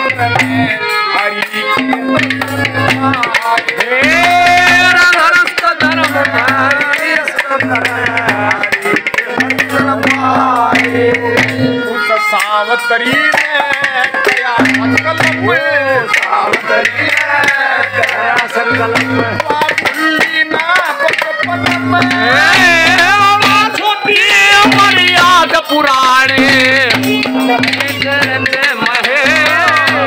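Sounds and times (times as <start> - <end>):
folk music over loudspeaker: 0.0 - 30.0
hand drum beating: 0.0 - 30.0
ornamented melody: 0.0 - 30.0.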